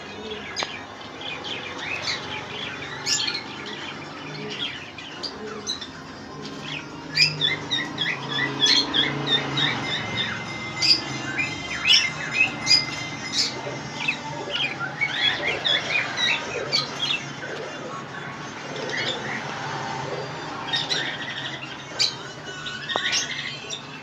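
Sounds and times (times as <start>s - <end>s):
caged birds chirping and squawking: 0.0s - 24.0s.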